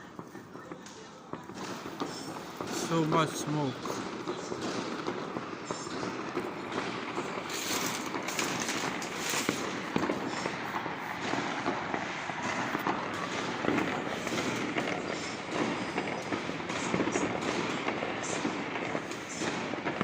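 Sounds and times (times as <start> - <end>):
fireworks crackling: 0.0 - 20.0
loud firecracker cracks: 0.0 - 20.0.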